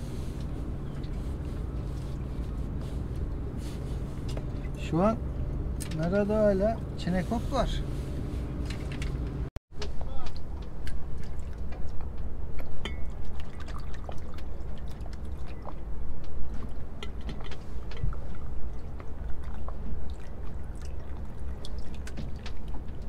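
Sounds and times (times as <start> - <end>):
water lapping and dripping: 0.0 - 7.5, 9.8 - 23.0.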